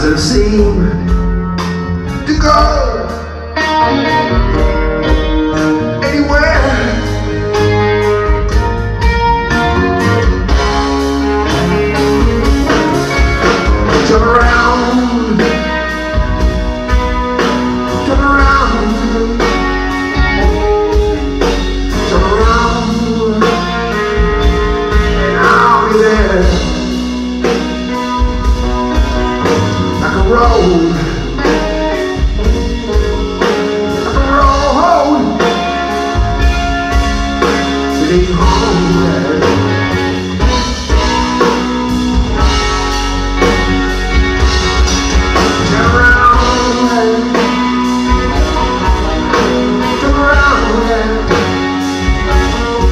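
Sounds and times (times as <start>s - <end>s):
bass guitar: 0.0s - 52.9s
drum kit beat: 0.0s - 52.9s
electric guitar with bent notes: 0.0s - 52.9s.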